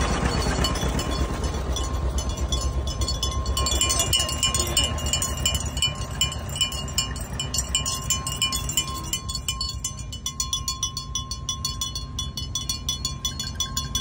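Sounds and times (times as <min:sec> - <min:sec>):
engine rumble of passing vehicles: 0:00.0 - 0:14.0
rapid high jingling: 0:00.0 - 0:14.0.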